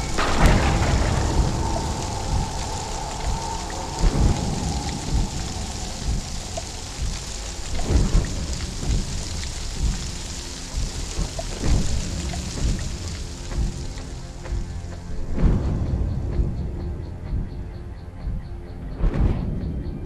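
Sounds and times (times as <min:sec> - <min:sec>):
steady rain: 0:00.0 - 0:17.4
low thunder rumbles: 0:00.0 - 0:17.7.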